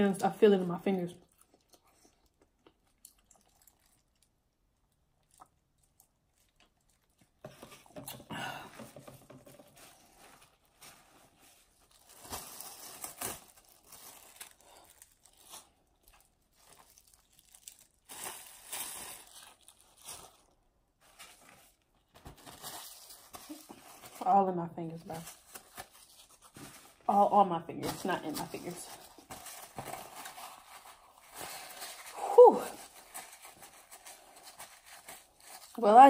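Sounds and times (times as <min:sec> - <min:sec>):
plastic gloves crinkling: 0:00.0 - 0:36.0.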